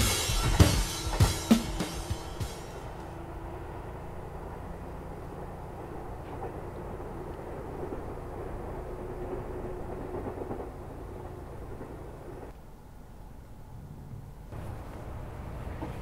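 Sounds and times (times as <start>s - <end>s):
distant electric train rumble: 0.0s - 16.0s.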